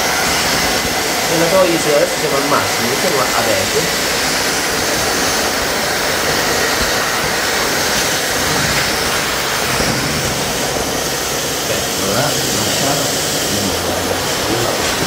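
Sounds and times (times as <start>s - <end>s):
stick vacuum running: 0.0s - 15.0s.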